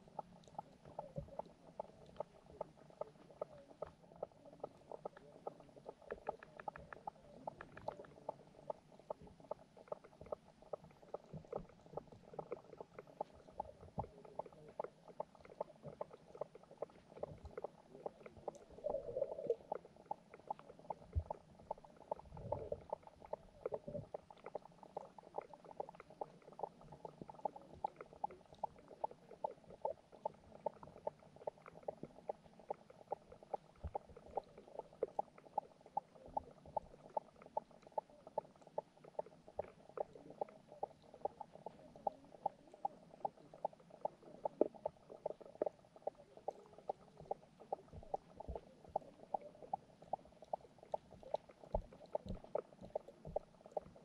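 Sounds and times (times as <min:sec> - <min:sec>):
bubbly swells: 0:00.0 - 0:54.0
underwater hum: 0:00.0 - 0:54.0.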